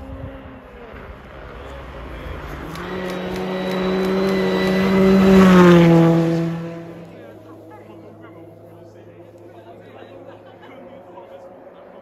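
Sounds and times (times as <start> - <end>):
rally car engine running hard: 0.0 - 12.0.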